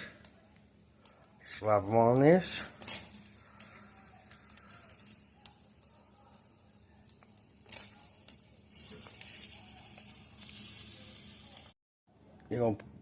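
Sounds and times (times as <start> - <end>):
skillet sizzling: 0.8 - 11.8.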